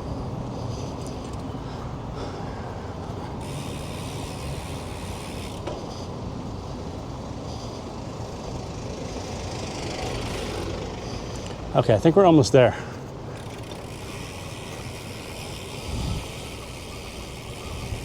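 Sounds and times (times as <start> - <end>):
bicycle road and wind noise: 0.0 - 18.0.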